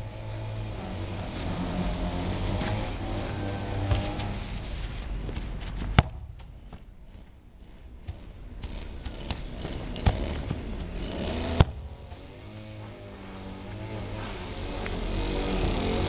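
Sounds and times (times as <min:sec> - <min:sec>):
foot kicking football: 0:01.3 - 0:16.0.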